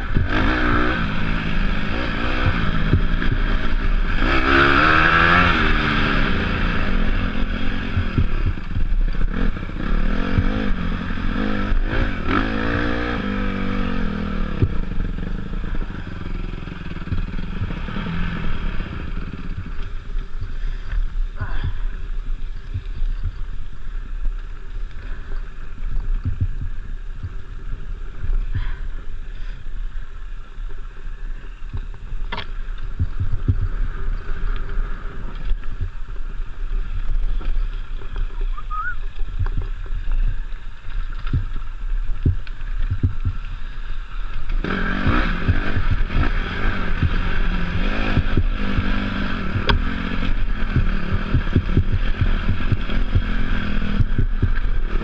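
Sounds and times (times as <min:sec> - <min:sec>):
wind buffeting microphone: 0:00.0 - 0:30.4, 0:31.4 - 0:55.0
motorcycle engine: 0:00.0 - 0:55.0.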